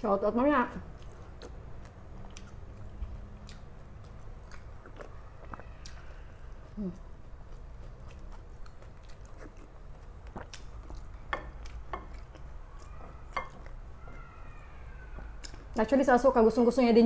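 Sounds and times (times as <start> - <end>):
low background hum: 0.0 - 17.0
quiet chewing: 0.8 - 15.8.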